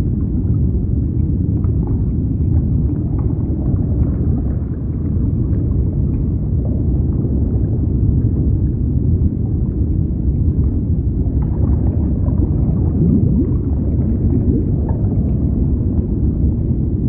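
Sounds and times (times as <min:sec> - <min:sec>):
faint bubbling: 0:00.0 - 0:17.0
underwater rumble: 0:00.0 - 0:17.0.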